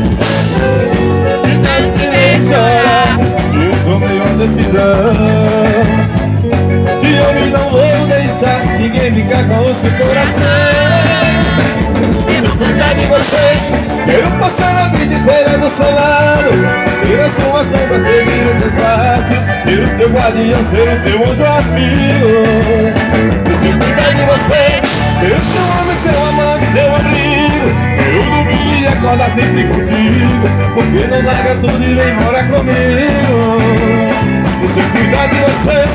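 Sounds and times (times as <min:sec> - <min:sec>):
bass-heavy beat: 0:00.0 - 0:35.9
electric guitars: 0:00.0 - 0:35.9
live band playing: 0:00.0 - 0:35.9
piano accordion: 0:00.0 - 0:35.9.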